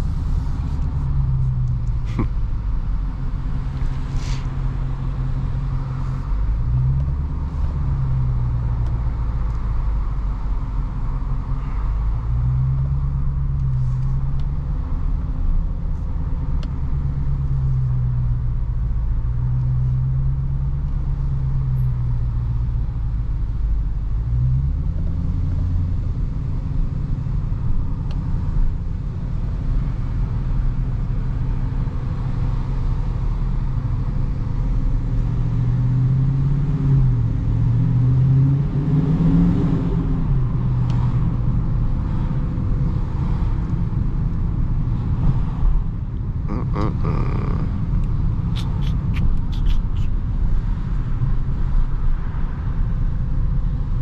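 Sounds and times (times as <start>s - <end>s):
car engine running at low revs: 0.0s - 54.0s.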